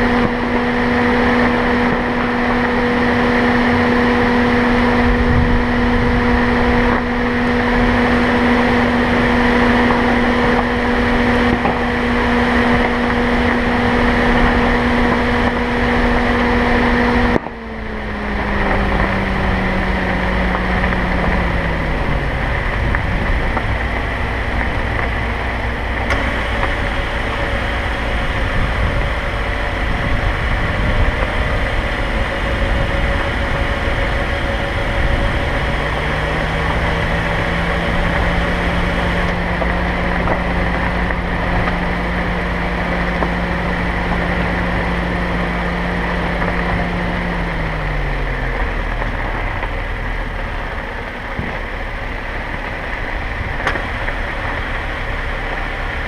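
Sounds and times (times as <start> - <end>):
car engine hum: 0.0 - 56.0
road noise: 0.0 - 56.0.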